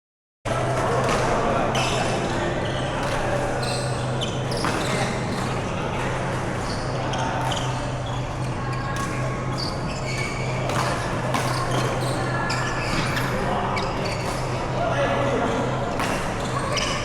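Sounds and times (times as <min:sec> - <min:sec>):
shoes squeaking on court floor: 0:01.8 - 0:14.8, 0:15.9 - 0:17.0.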